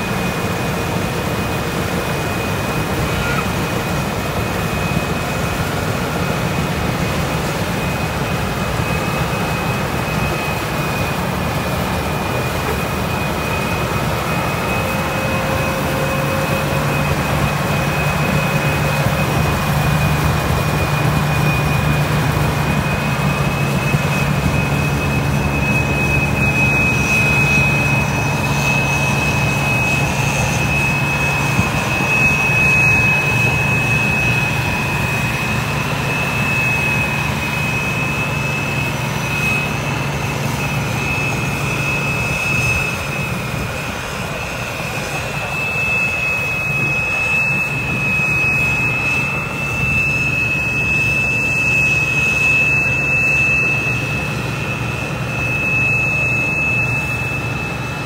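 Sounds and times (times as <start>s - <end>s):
combine harvester engine drone: 0.0s - 58.0s
high-pitched whine: 0.0s - 58.0s.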